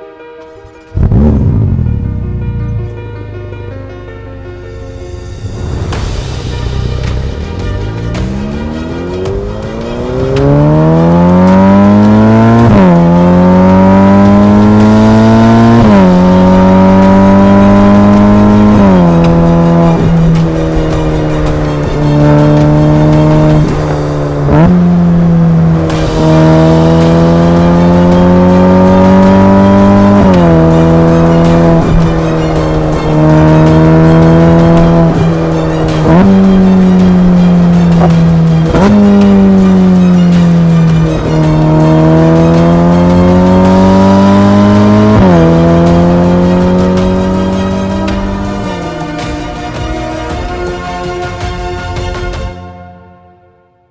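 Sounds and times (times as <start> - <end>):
car engine accelerating through gears: 0.6 - 50.5.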